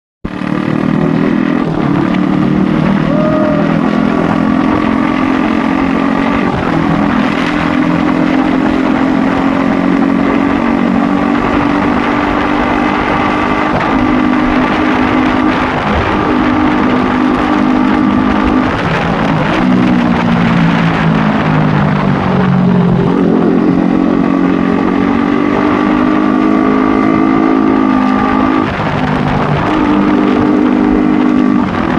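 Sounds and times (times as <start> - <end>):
motorcycle engine revving: 0.3 - 31.9.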